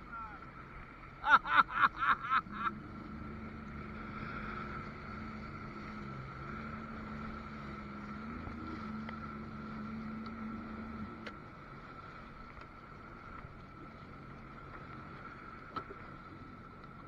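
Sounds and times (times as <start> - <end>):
water noise: 0.0 - 17.0
watercraft engine humming: 0.0 - 17.0.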